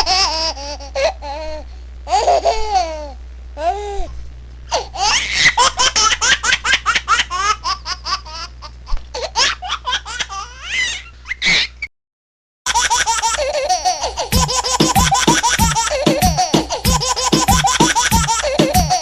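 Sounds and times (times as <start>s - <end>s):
baby laughing: 0.0s - 3.8s, 4.7s - 11.7s, 12.7s - 19.0s.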